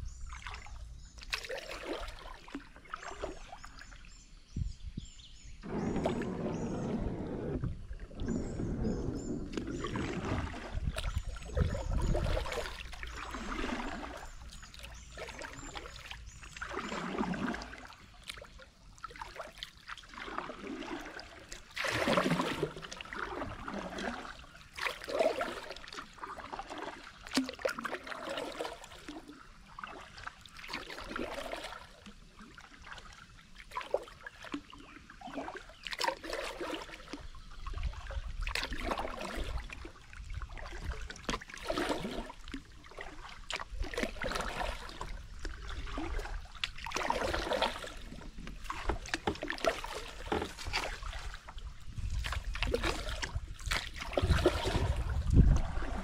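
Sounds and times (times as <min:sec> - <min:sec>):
kayak paddle dipping and swishing: 0:00.0 - 0:56.0
water lapping along hull: 0:00.0 - 0:56.0.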